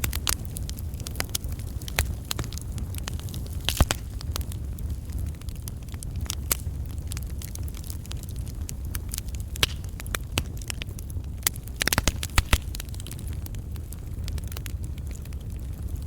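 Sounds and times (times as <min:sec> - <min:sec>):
burning wood crackling and popping: 0:00.0 - 0:16.0
campfire flames burning: 0:00.0 - 0:16.0.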